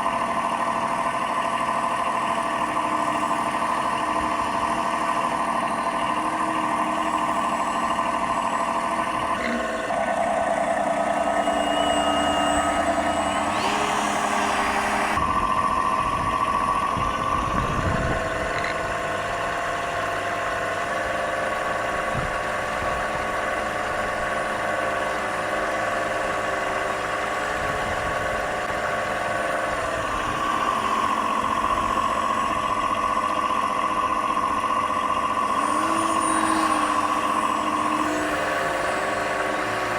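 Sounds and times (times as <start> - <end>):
simulated diesel engine sound: 0.0 - 39.9.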